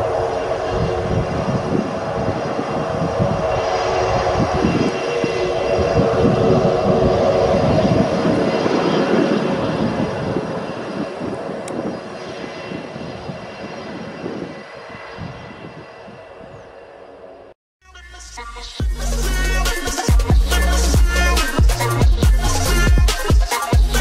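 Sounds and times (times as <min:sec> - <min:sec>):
jet engines whining: 0:00.0 - 0:17.6, 0:18.5 - 0:24.0.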